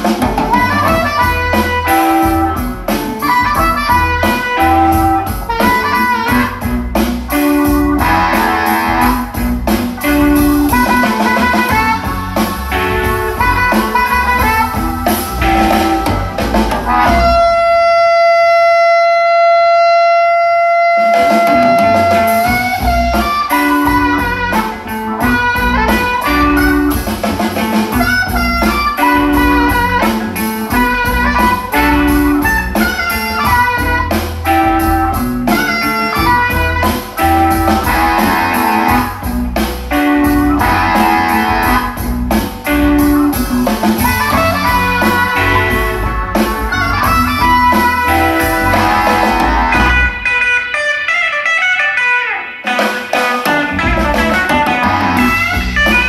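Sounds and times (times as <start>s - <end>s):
band playing steady beat: 0.0s - 56.0s.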